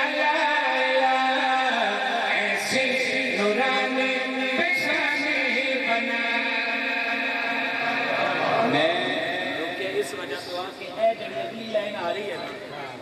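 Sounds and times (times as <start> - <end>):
men chanting devotional poem: 0.0 - 13.0.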